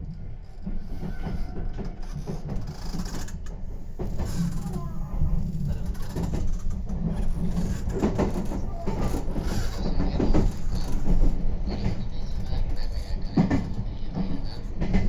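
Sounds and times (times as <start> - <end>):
train rumble on board: 0.0 - 15.0
wheels clacking over rail joints: 0.0 - 15.0.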